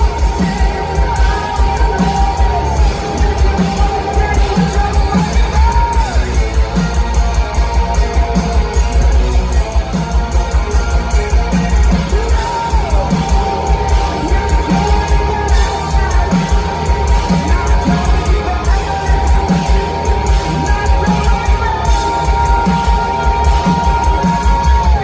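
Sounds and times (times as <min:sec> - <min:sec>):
steady drums: 0:00.0 - 0:25.0.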